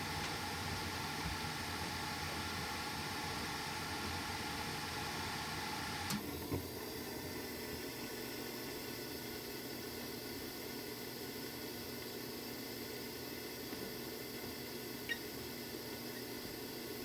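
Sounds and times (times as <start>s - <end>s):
gas furnace rushing hiss: 0.0s - 17.0s.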